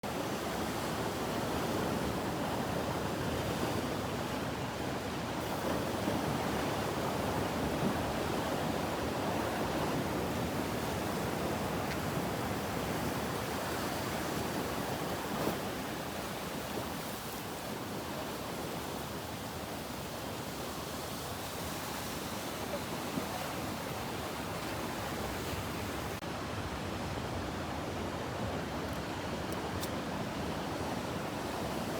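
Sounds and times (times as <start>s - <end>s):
ocean surf washing on beach: 0.0s - 31.9s.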